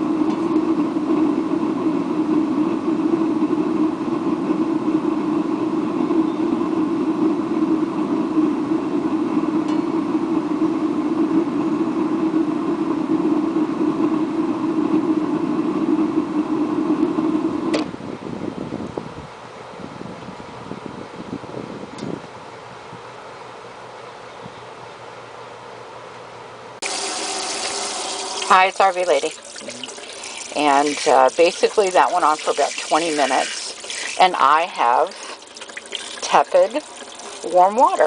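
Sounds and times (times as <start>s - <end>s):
gas burner roaring: 0.0s - 23.1s, 26.8s - 38.0s.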